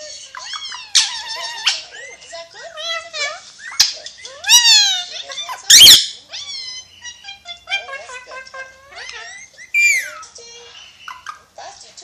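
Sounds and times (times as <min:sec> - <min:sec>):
parakeet chattering: 0:00.0 - 0:11.6
parakeet harsh squawk: 0:00.3 - 0:02.0, 0:02.8 - 0:11.5.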